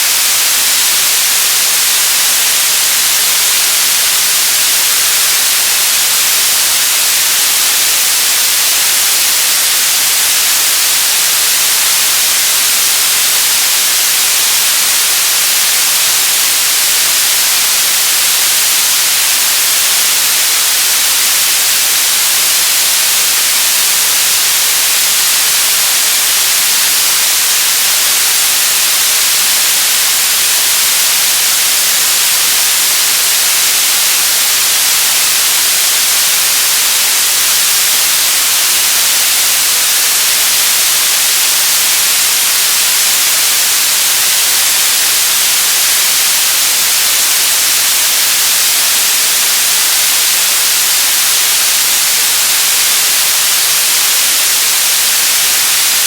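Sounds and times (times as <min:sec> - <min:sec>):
television static hiss: 0:00.0 - 0:56.0.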